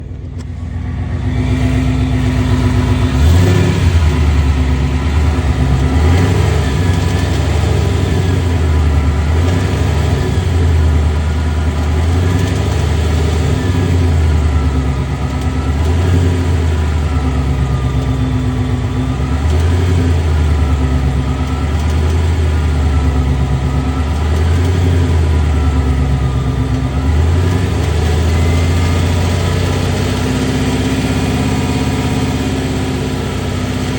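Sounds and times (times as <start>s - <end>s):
car engine droning: 0.0s - 33.9s
faint whine: 0.0s - 33.9s.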